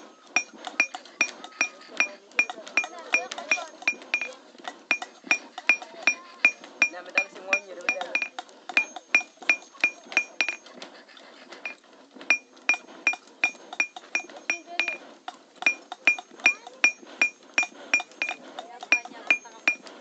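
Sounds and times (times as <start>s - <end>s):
hammer striking metal: 0.4s - 10.6s, 12.3s - 15.0s, 15.6s - 19.9s.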